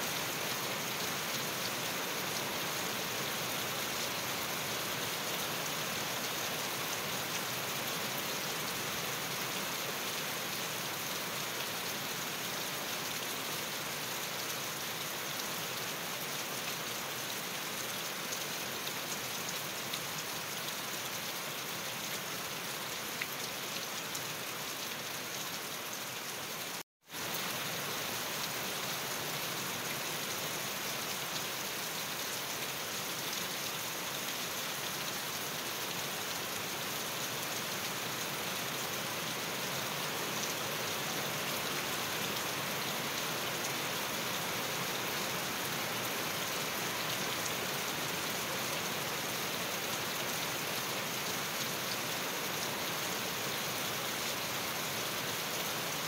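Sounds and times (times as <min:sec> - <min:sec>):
rain falling on grass and leaves: 0:00.0 - 0:56.0.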